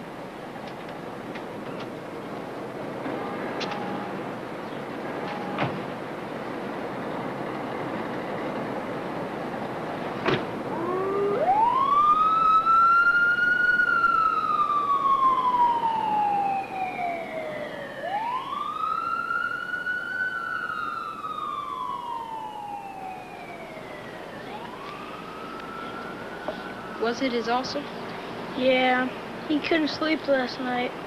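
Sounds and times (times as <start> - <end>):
ambulance siren wailing: 1.8 - 28.5.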